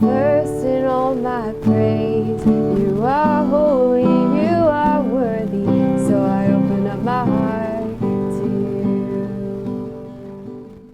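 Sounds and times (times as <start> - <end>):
person singing: 0.0 - 10.1
strummed acoustic guitar: 0.0 - 10.9.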